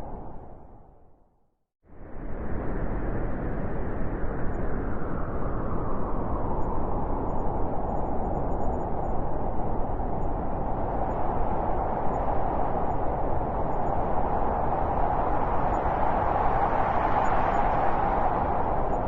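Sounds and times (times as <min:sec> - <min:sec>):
strong wind blowing: 0:01.9 - 0:19.0.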